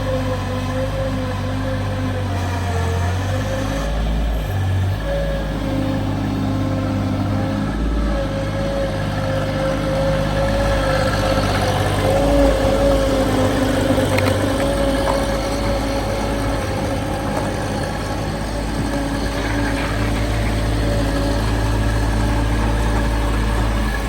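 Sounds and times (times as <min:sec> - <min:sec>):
digging machine engine running: 0:00.0 - 0:24.0.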